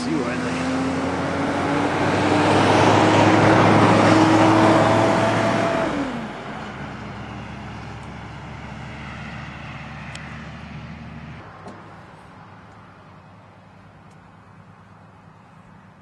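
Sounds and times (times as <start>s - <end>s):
vehicle driving past: 0.0s - 13.2s.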